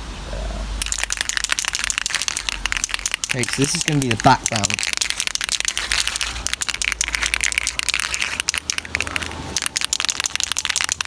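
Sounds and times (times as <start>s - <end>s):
spray paint can hissing: 0.8s - 11.0s.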